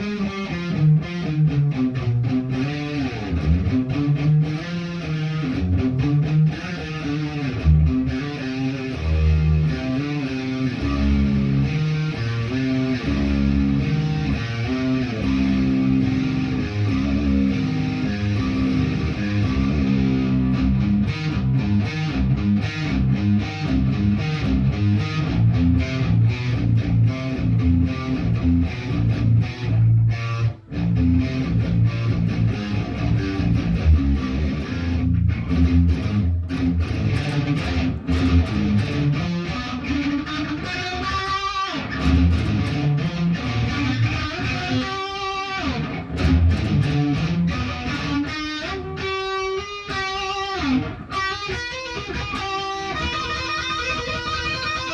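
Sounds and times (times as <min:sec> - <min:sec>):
electric guitar playing: 0:00.0 - 0:54.9.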